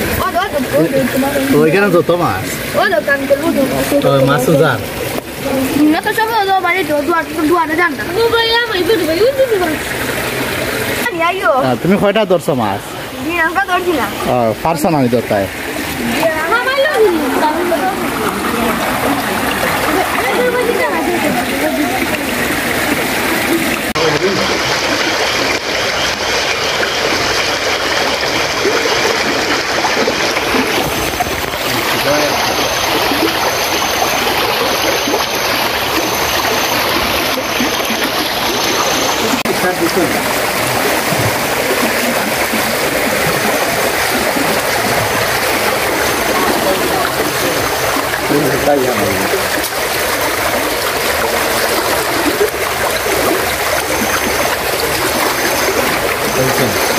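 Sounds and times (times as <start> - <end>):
floodwater rushing: 0.0 - 56.9.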